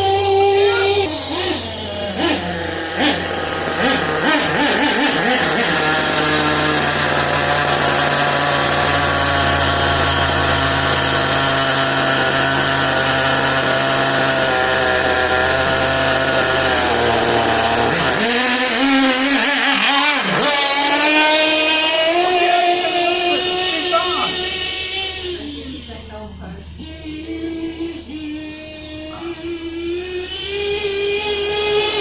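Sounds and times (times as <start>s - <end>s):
small model engine running: 0.0s - 32.0s.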